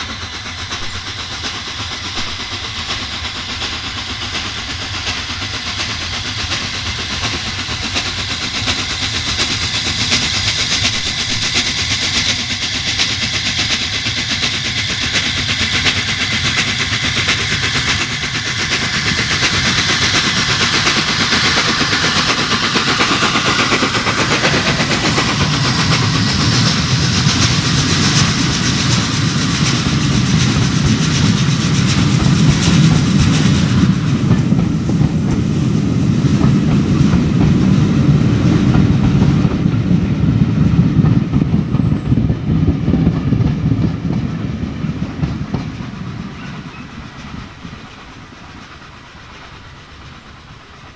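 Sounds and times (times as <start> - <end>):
coaches rolling clickety-clack: 0.0 - 50.9
steam locomotive exhaust beating: 0.0 - 50.9.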